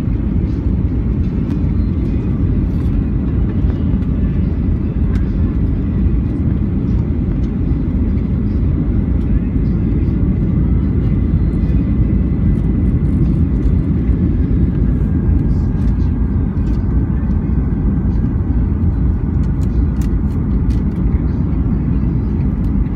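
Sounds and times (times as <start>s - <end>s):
airliner cabin engine rumble: 0.0s - 22.9s.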